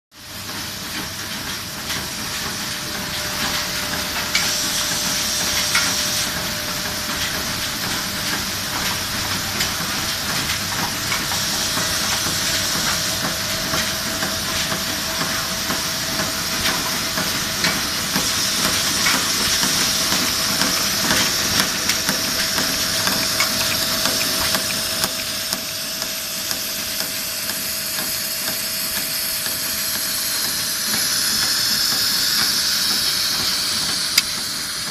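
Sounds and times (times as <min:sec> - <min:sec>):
machine hissing and humming: 0:00.2 - 0:34.9.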